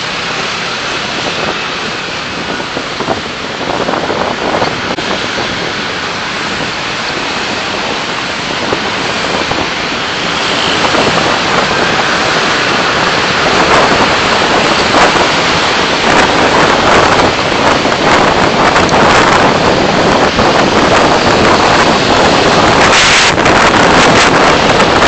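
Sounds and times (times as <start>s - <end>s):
car road and wind noise: 0.0s - 25.0s.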